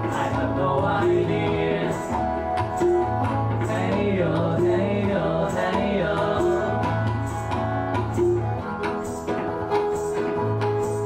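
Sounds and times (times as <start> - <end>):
acoustic guitar: 0.0 - 11.0
tabla strokes: 0.0 - 11.0.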